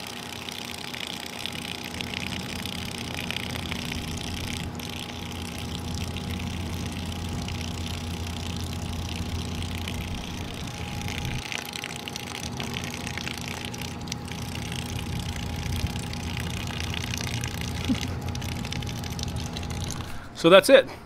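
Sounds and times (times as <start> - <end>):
small water pump humming: 0.0 - 20.4.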